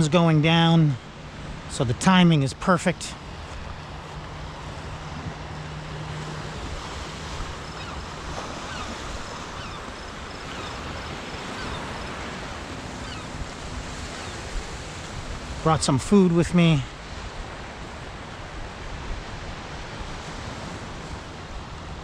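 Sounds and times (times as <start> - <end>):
waves washing onto rocks: 0.0 - 22.0.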